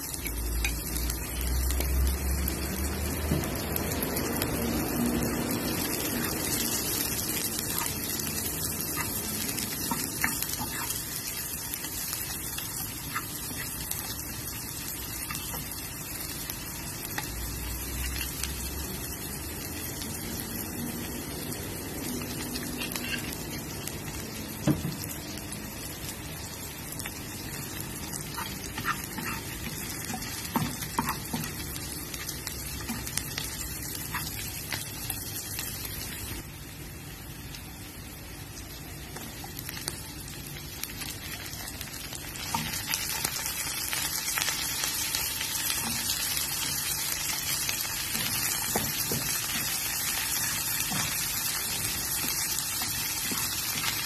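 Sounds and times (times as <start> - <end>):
onion and garlic sizzling in oil: 0.0 - 54.0.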